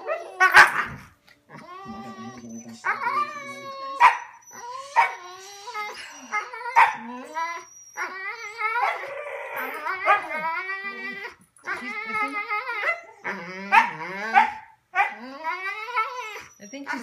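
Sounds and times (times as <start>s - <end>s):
dog yowling and howling: 0.0s - 17.0s.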